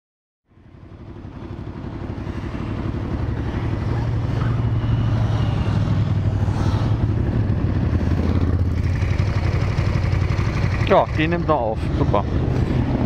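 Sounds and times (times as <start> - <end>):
motorcycle engine idling: 0.5 - 5.6, 7.2 - 13.0.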